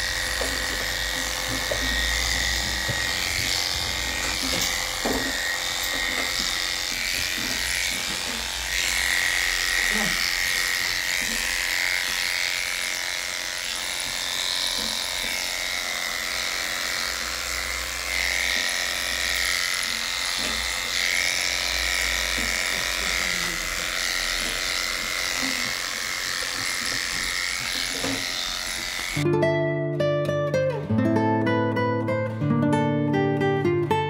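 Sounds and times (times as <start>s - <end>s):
electric clippers buzzing: 0.0s - 29.3s.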